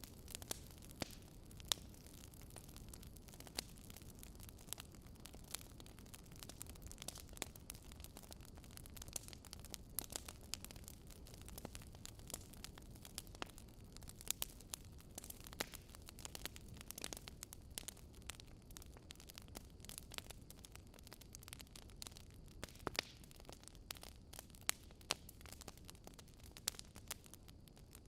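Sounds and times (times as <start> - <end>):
fire crackling and popping: 0.0 - 28.0.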